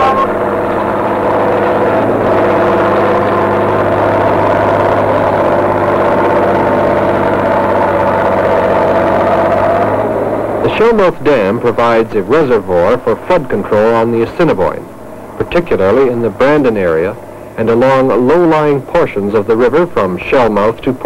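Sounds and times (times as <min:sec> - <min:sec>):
heavy diesel engines running: 0:00.0 - 0:21.0.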